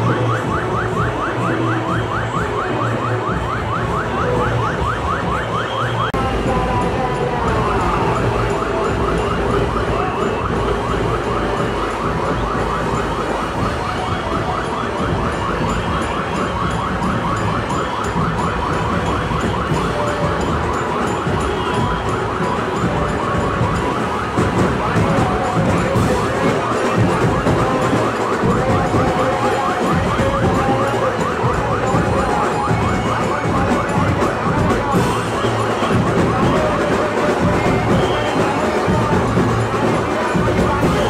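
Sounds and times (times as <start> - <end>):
dense street crowd din: 0.0 - 41.0
siren-like rising yelp: 0.0 - 41.0.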